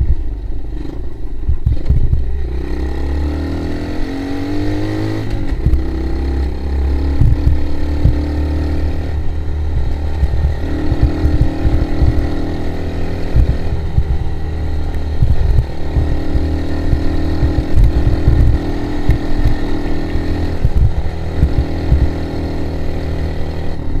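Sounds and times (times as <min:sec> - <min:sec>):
quad engine revving: 0:00.6 - 0:24.0
low thumps: 0:01.4 - 0:02.4, 0:04.9 - 0:23.3.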